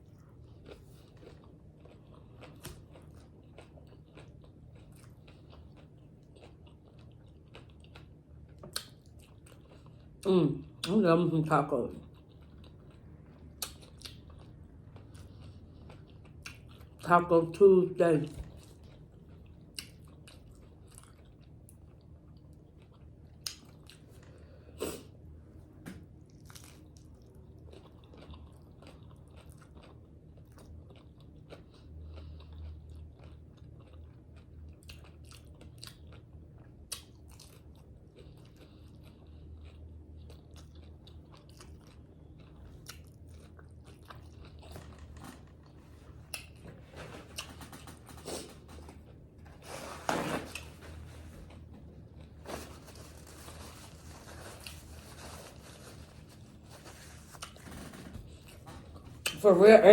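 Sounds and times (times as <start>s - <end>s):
person chewing crunchy food: 0.0s - 10.9s, 12.0s - 17.0s, 18.4s - 59.4s.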